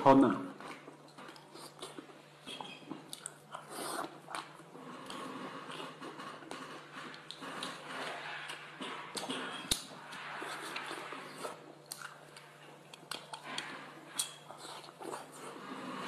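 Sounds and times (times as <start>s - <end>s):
person chewing with wet mouth noises: 0.5s - 16.0s.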